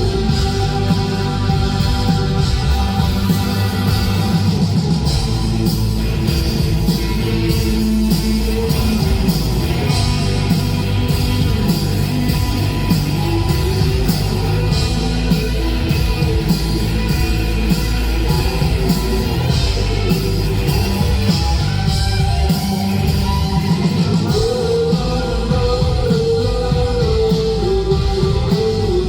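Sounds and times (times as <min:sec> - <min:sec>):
bass guitar: 0:00.0 - 0:29.0
drum beat with cymbals: 0:00.0 - 0:29.0
electric guitars: 0:00.0 - 0:29.0.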